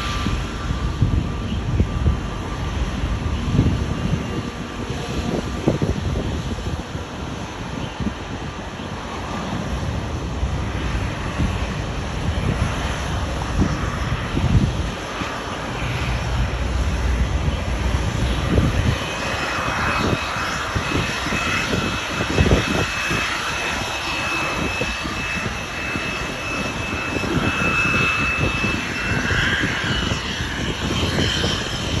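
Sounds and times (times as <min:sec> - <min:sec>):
jet engine noise: 0:00.0 - 0:32.0
wind buffeting microphone: 0:00.0 - 0:32.0.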